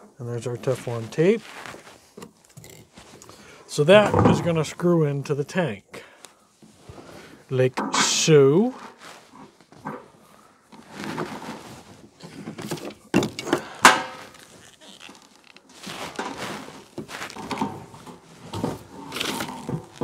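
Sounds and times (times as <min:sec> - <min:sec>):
plastic hose rubbing and scraping: 0:00.0 - 0:04.7, 0:06.6 - 0:20.0.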